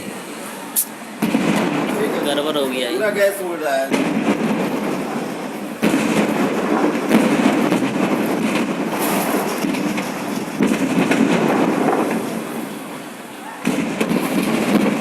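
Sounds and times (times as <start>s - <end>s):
rush of burning escaping gas: 0.0s - 15.0s
fire crackling and popping: 0.8s - 15.0s.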